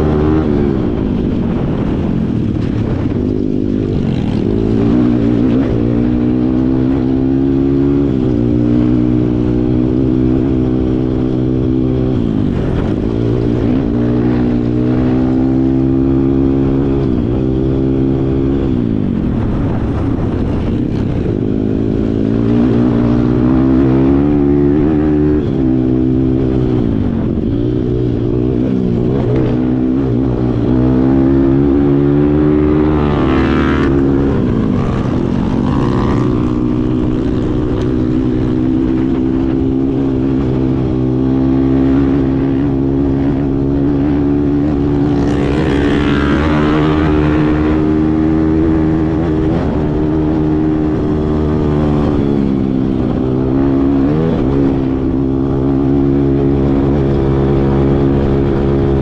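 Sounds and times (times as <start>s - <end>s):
dirt bike engine revving: 0.0s - 2.0s, 2.6s - 59.0s.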